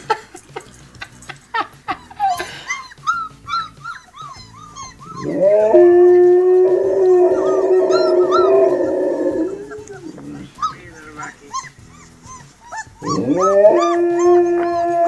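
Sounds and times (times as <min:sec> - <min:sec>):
dog whining: 0:02.0 - 0:15.0
dog howling: 0:02.2 - 0:15.0.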